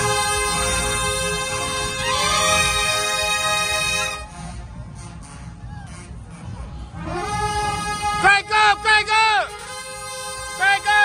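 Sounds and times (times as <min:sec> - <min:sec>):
brass band playing chords: 0:00.0 - 0:11.0.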